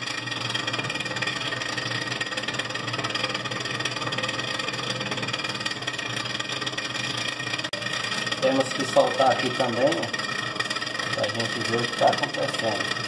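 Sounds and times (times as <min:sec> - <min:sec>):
refrigerator fan whirring rattle: 0:00.0 - 0:13.0.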